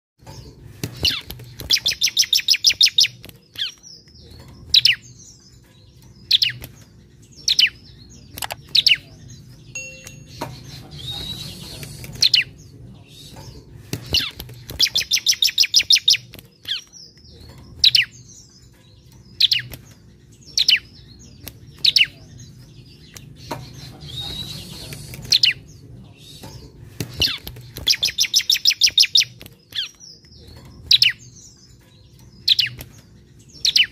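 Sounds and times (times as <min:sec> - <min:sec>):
bird singing rattling trill: 0:00.2 - 0:33.9.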